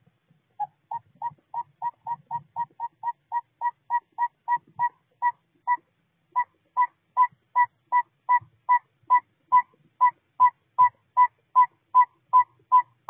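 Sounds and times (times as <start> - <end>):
owl tooting: 0.6 - 5.8, 6.4 - 13.0.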